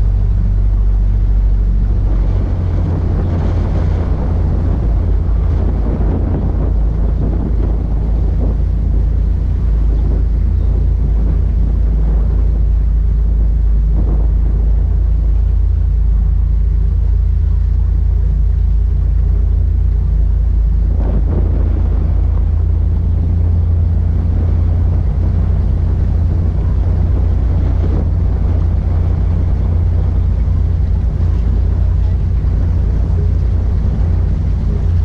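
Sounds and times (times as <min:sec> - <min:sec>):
motorboat engine drone: 0:00.0 - 0:35.0
wind buffeting microphone: 0:00.0 - 0:35.0.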